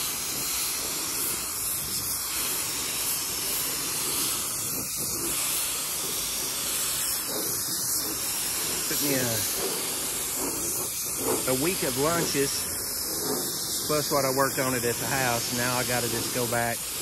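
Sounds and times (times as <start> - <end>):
spray gun hissing: 0.0 - 17.0.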